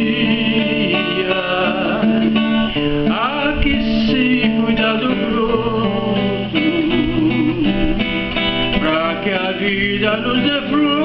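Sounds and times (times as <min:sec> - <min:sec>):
fingerpicked classical guitar: 0:00.0 - 0:11.0.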